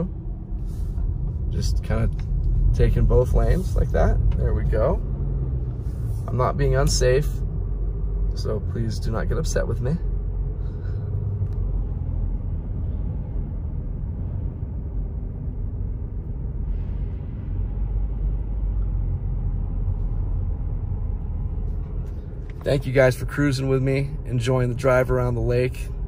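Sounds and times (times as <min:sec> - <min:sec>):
car road rumble: 0:00.0 - 0:26.0.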